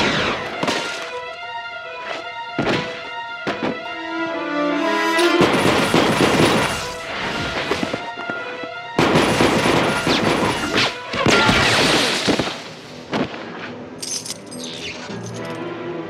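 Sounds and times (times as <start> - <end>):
dramatic music: 0.0 - 16.0.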